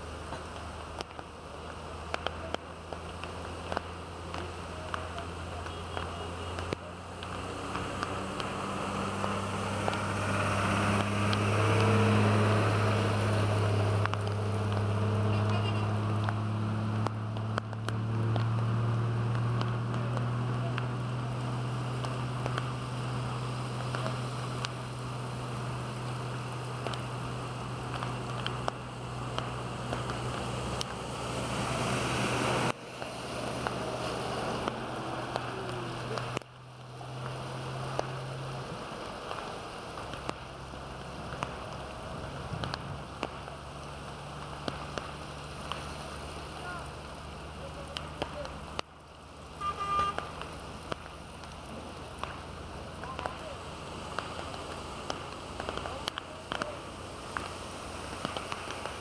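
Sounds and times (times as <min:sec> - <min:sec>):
heavy rain on a flooded street: 0:00.0 - 0:59.0
vehicle engine humming: 0:00.0 - 0:59.0
rain drop taps: 0:00.2 - 0:59.0.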